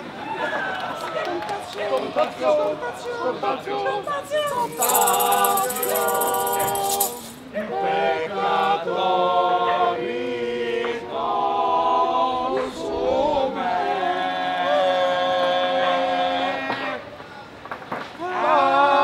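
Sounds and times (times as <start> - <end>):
voices singing unaccompanied: 1.1 - 17.1, 18.2 - 19.0.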